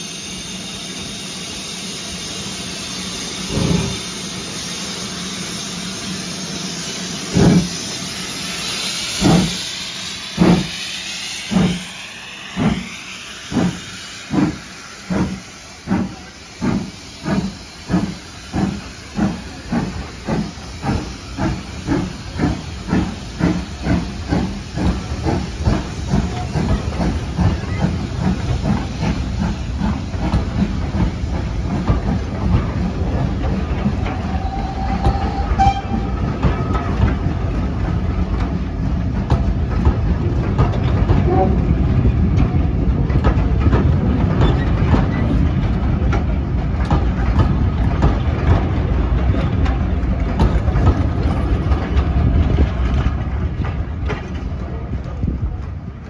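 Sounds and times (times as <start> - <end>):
steam hissing: 0.0 - 53.6
steam locomotive exhaust chuffs: 0.0 - 56.0
train coaches rumbling: 0.0 - 56.0.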